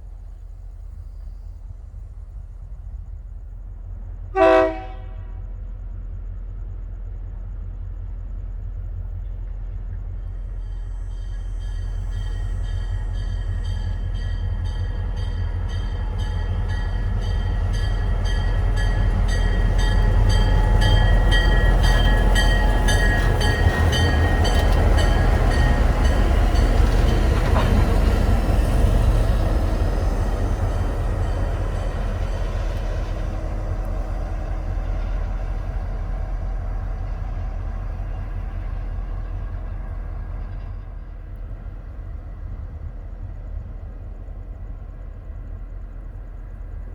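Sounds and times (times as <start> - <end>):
train rumbling past: 0.0 - 46.9.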